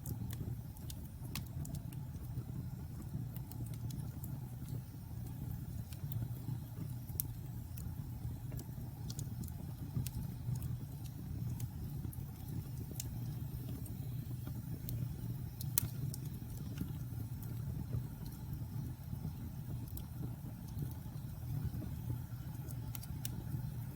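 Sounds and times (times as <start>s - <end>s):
fire crackling and popping: 0.0s - 23.9s
fire rumbling in a fireplace: 0.0s - 23.9s.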